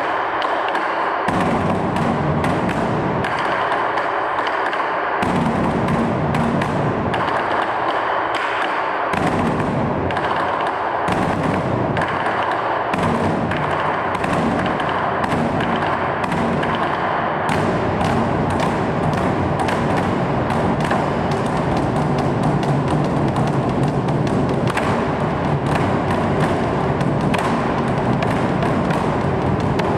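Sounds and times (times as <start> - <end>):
barrel drums beaten rapidly: 0.0 - 29.9.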